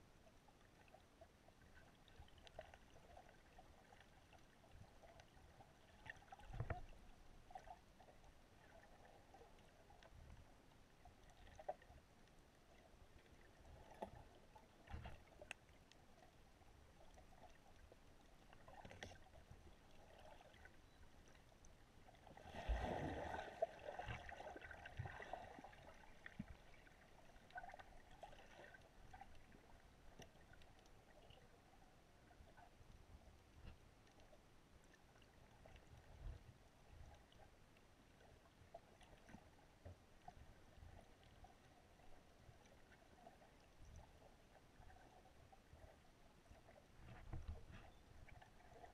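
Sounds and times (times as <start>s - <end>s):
faint underwater ambience: 0.0s - 48.9s.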